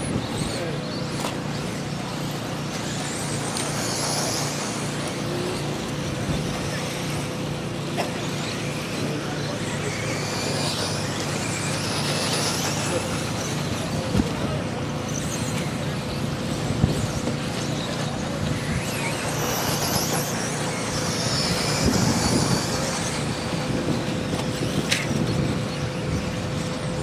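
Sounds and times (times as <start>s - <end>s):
high motor whines: 0.0s - 27.0s
steady hum: 0.0s - 27.0s.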